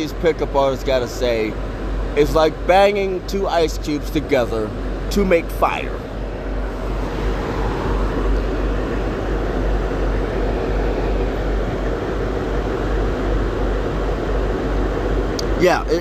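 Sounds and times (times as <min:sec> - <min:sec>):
vehicle rumbling with low hum: 0:00.0 - 0:16.0.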